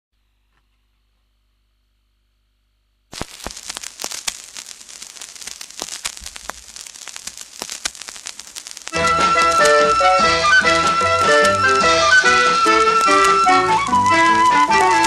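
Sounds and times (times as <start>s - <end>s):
record hiss and crackle: 0.5s - 15.0s.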